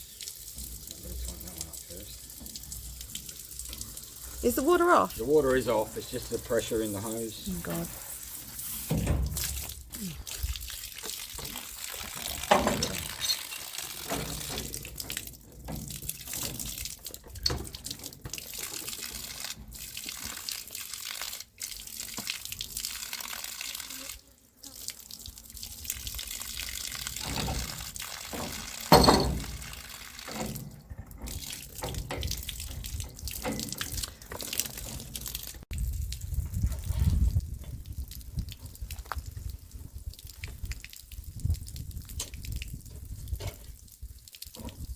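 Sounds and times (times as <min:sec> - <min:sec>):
water spraying and dripping: 0:00.0 - 0:44.9.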